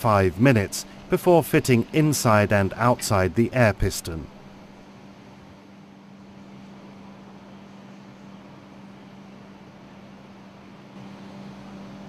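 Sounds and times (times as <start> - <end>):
faint steady hum: 0.0 - 12.0
low hiss: 0.0 - 12.0.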